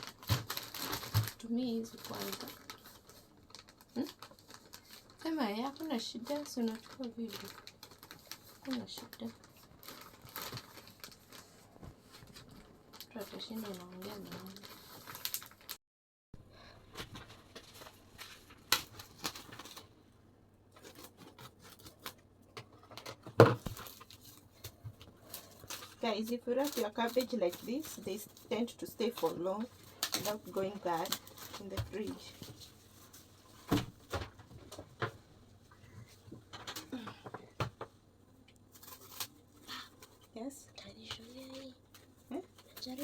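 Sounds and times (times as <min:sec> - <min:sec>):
cabbage wrapping crinkles and rustles: 0:00.0 - 0:15.8, 0:17.0 - 0:20.0, 0:20.7 - 0:22.2, 0:23.4 - 0:34.4, 0:38.6 - 0:43.0.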